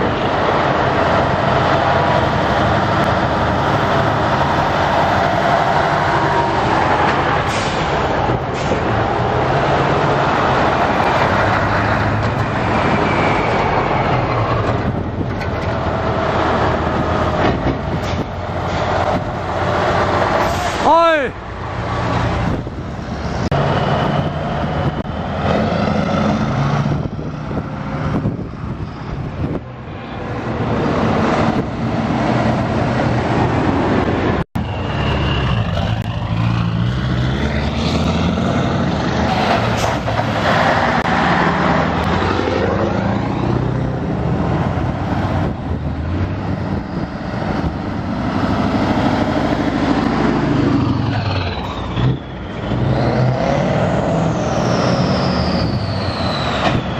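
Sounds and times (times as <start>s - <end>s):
truck diesel engines driving past: 0.0s - 56.9s.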